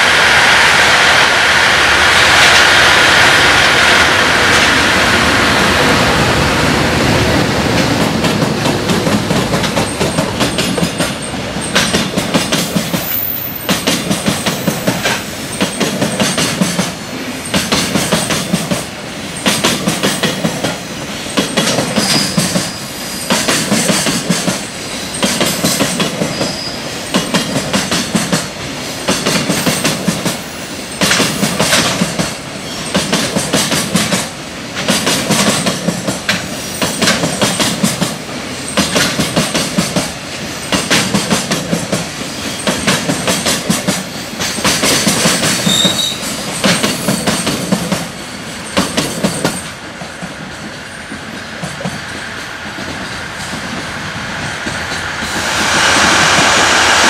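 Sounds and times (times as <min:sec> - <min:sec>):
freight train wheels clattering: 0:03.5 - 0:56.6.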